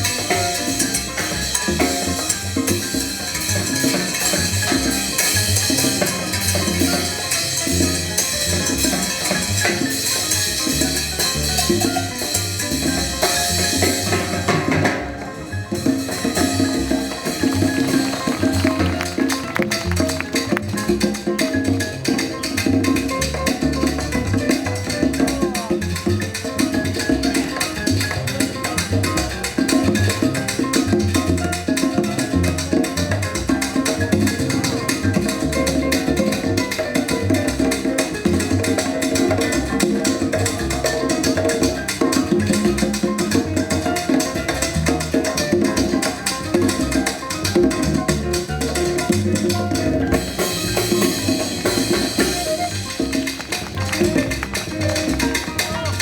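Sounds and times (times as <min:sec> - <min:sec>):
live latin jazz ensemble: 0:00.0 - 0:56.0.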